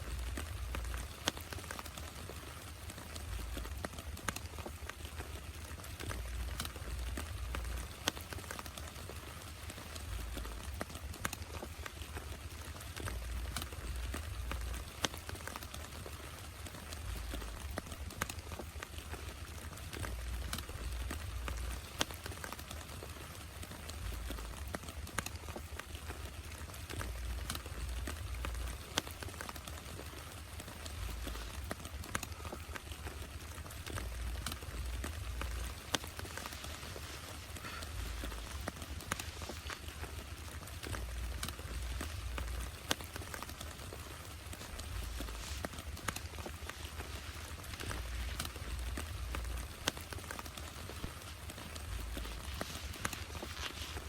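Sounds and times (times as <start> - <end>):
heavy rain falling: 0.0 - 54.0
raindrops tapping a surface: 0.0 - 54.0.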